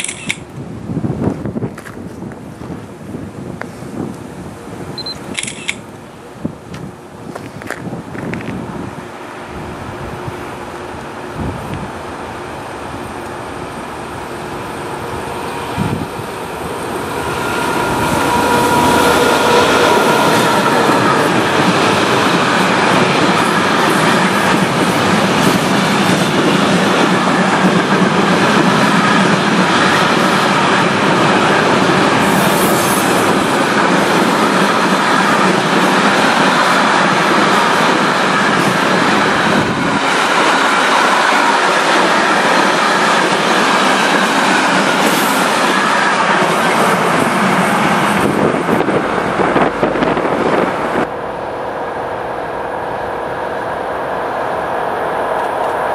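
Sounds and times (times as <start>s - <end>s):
freight train wheels on rails: 0.0s - 55.9s.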